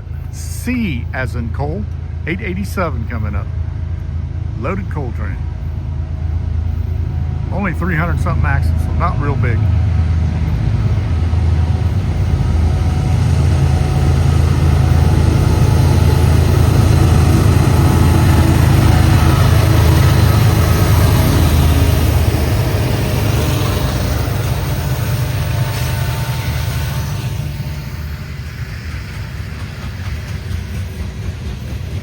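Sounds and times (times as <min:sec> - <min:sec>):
diesel locomotive rumble: 0:00.0 - 0:32.0.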